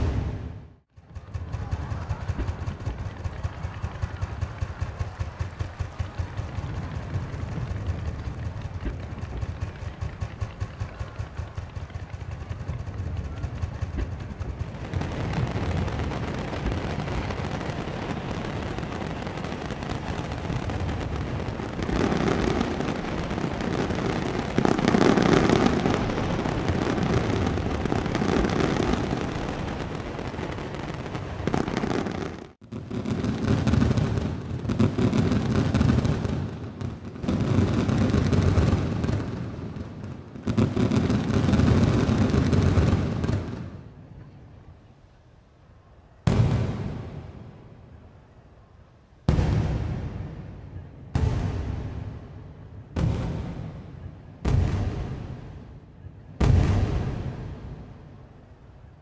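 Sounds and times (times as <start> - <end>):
fireworks crackling and popping: 0.0 - 44.0, 46.3 - 47.6, 49.3 - 58.2
fireworks booming bursts: 0.0 - 44.4, 46.2 - 48.2, 49.2 - 59.0.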